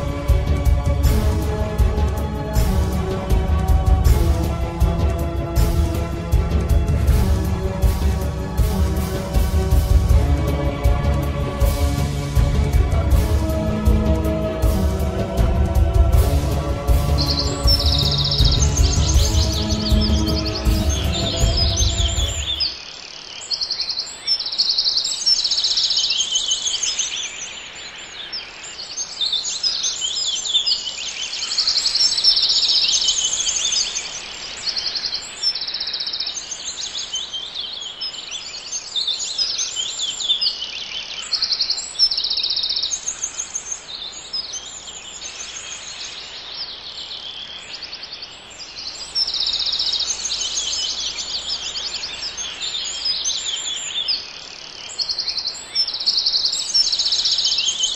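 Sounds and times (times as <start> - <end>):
chorus of birds singing: 0.0 - 57.9.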